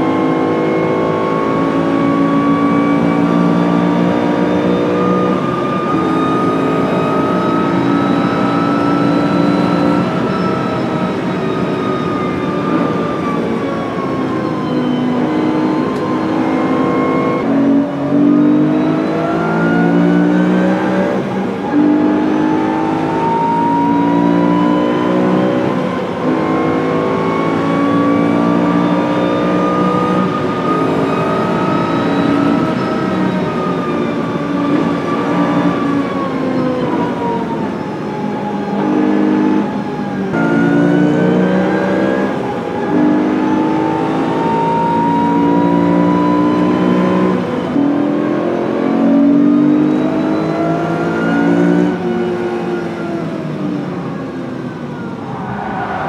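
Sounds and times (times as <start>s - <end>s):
car engine revving at speed: 0.0s - 56.0s
road and wind noise: 0.0s - 56.0s.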